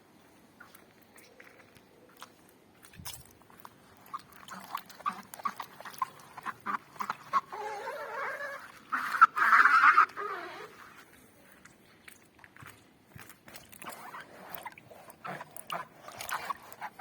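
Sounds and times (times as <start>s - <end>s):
pool body creaking and squeaking: 0.6s - 17.0s.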